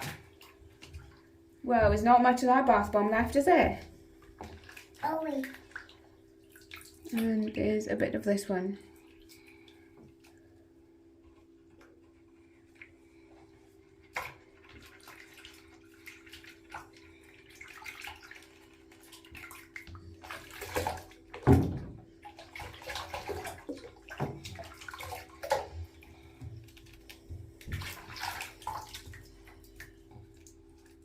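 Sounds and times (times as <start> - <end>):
bath water splashing: 0.0 - 31.0.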